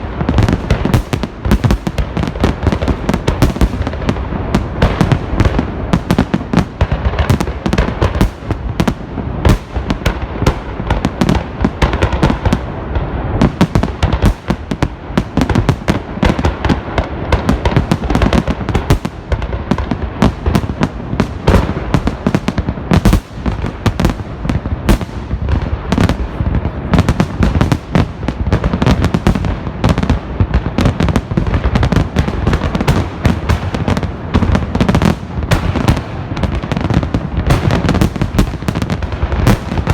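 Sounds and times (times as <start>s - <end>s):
fireworks barrage: 0.0s - 39.9s.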